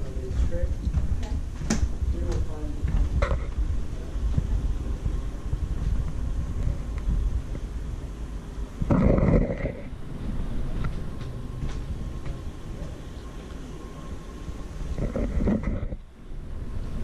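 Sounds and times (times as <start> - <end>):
wind noise on microphone: 0.0 - 13.2, 13.9 - 17.0.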